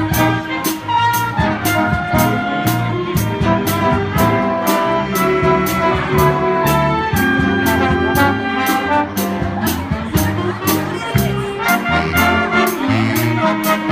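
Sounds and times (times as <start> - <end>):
brass horns holding notes: 0.0 - 13.9
jazz band playing: 0.0 - 13.9.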